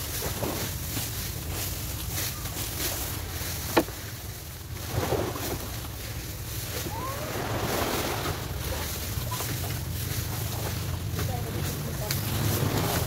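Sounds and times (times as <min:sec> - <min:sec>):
broom sweeping on ground: 0:00.0 - 0:13.0.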